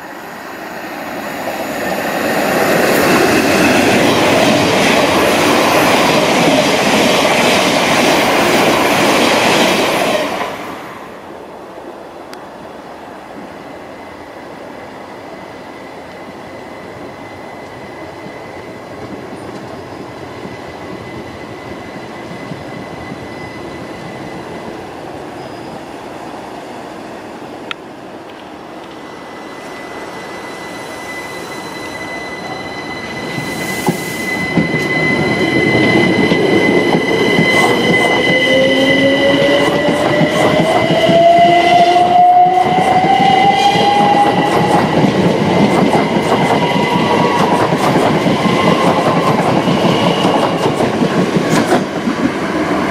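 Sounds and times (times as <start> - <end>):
electric train rumble: 0.0 - 52.9.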